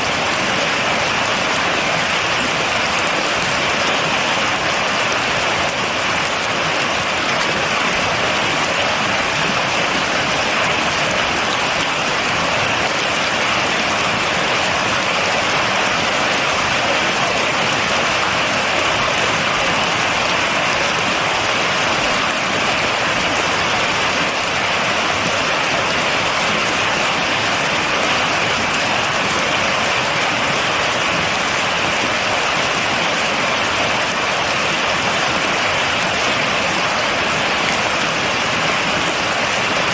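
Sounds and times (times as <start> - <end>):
heavy rain pattering on surfaces: 0.0 - 39.9.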